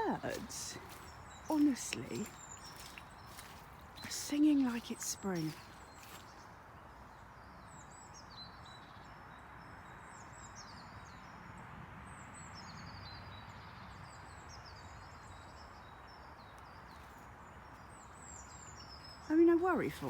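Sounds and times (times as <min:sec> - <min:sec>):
songbirds chirping and trilling: 0:00.0 - 0:20.0.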